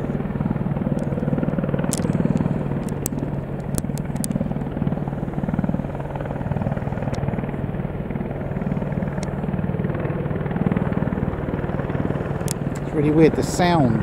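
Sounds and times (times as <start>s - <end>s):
helicopter rotor thudding: 0.0s - 14.0s.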